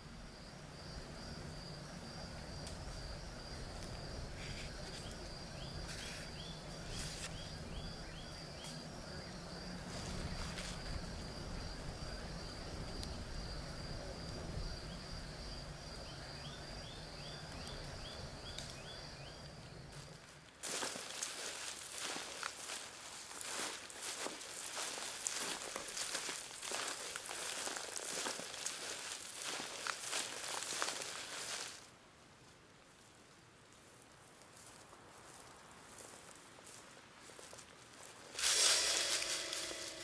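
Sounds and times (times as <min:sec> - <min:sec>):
crickets chirping: 0:00.0 - 0:32.2, 0:34.3 - 0:40.0.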